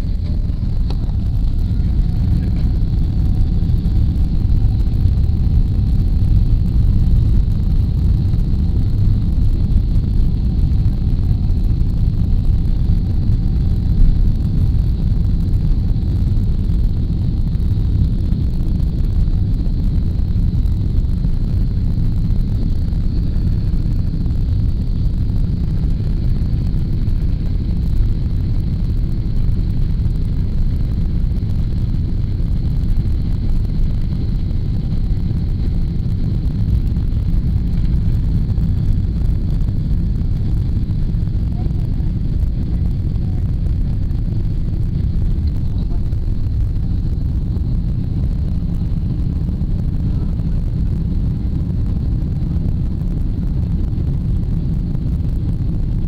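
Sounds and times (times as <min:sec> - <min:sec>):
engine and rolling gear rumble: 0:00.0 - 0:56.0
faint high whine: 0:00.0 - 0:56.0.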